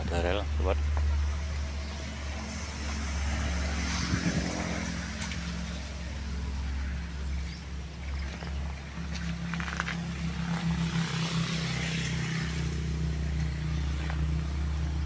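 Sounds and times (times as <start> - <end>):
vehicle engine humming: 0.0 - 15.0
wind and road noise hiss: 0.0 - 15.0.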